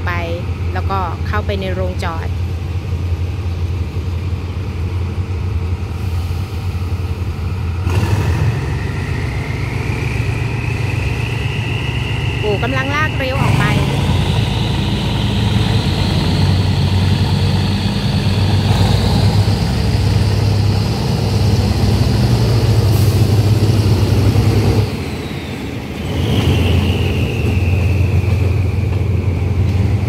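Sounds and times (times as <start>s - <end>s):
high engine whine: 0.0s - 30.0s
locomotive engine drone: 0.0s - 30.0s.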